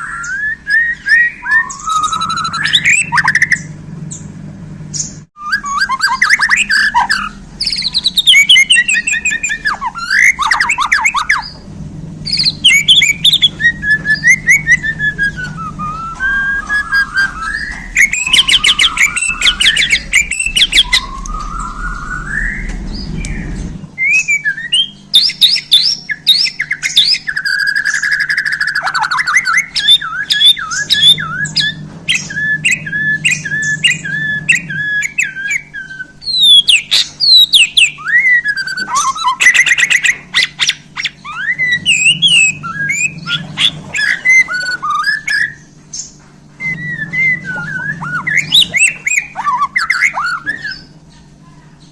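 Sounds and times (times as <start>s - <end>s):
songbird singing varied whistles: 0.0s - 3.7s, 4.9s - 11.6s, 12.2s - 51.0s
steady low hum: 0.0s - 51.9s.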